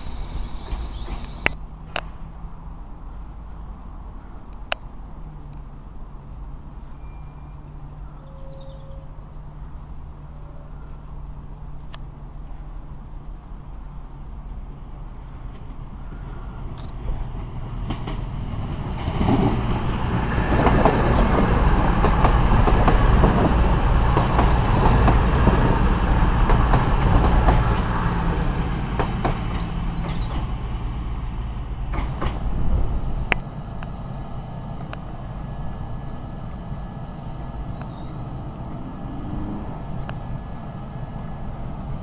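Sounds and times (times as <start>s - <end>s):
train passing: 0.0s - 4.2s, 4.9s - 42.0s.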